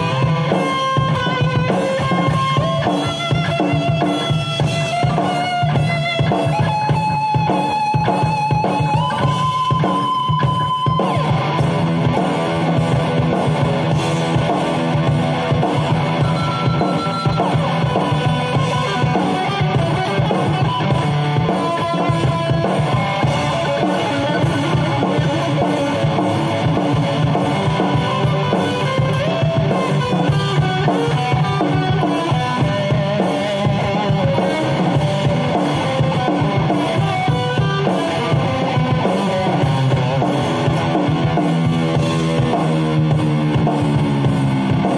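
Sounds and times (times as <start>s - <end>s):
backing track with drum kit: 0.0s - 44.9s
electric guitar playing: 0.0s - 44.9s.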